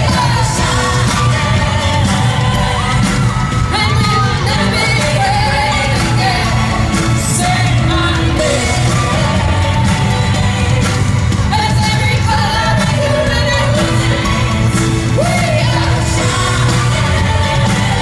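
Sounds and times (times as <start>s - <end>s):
live band playing pop song: 0.0s - 18.0s
woman singing: 0.0s - 18.0s.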